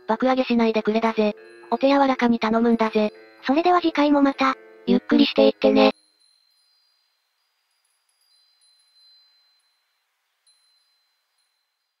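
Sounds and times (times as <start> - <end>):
faint high ringing tones: 1.2 - 12.0.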